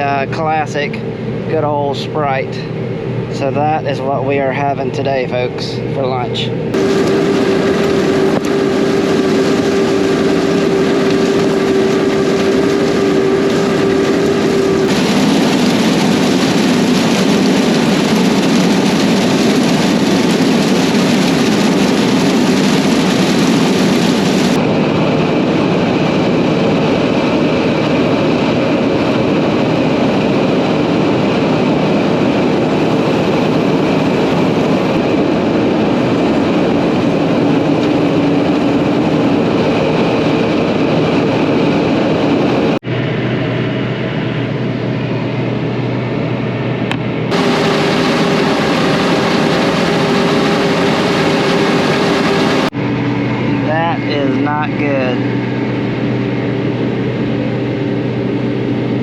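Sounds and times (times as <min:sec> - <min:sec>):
cotton picker machine drone: 0:00.0 - 0:59.0
steady hum: 0:00.0 - 0:59.0.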